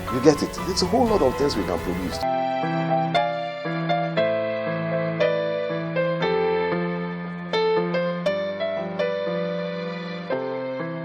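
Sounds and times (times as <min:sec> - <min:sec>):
soft electric piano chords: 0:00.0 - 0:11.0.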